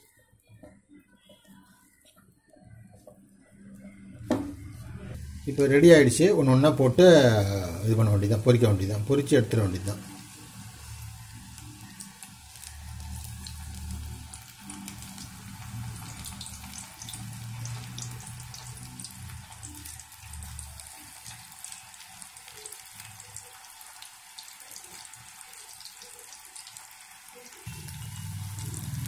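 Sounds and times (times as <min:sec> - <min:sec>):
food deep-frying in oil: 0:05.2 - 0:29.0.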